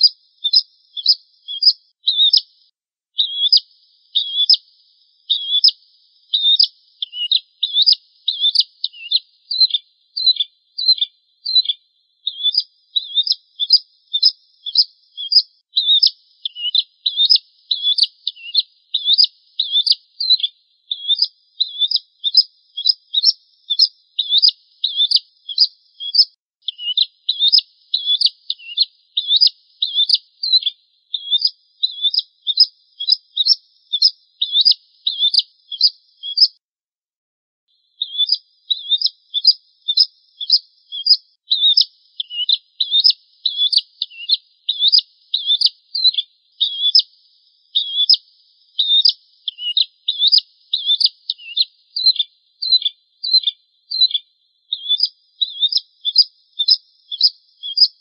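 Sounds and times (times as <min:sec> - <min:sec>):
bird chirping: 0:00.0 - 0:36.6, 0:37.8 - 0:58.0.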